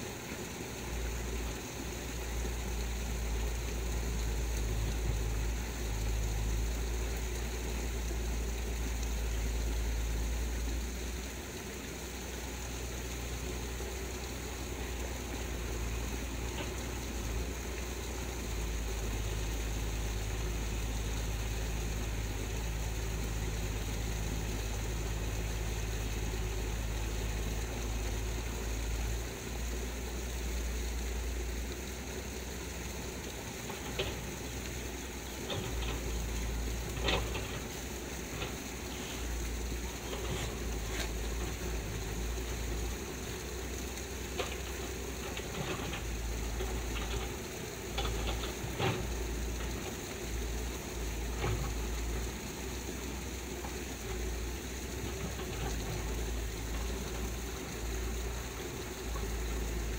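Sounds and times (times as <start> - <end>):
fast-flowing stream rushing: 0.0 - 59.9.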